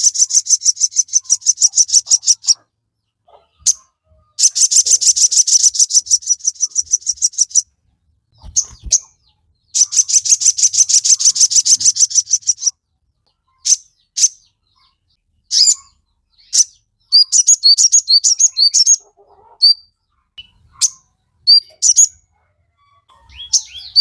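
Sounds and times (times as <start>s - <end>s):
songbird trilling and chirping: 0.0s - 24.0s.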